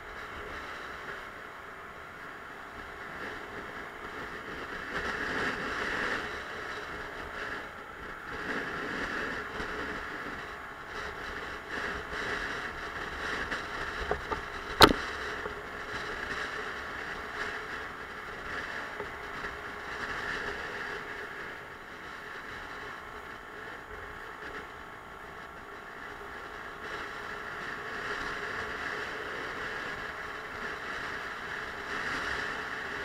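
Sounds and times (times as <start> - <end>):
scooter engine running: 0.0 - 33.0
wind and road noise: 0.0 - 33.0.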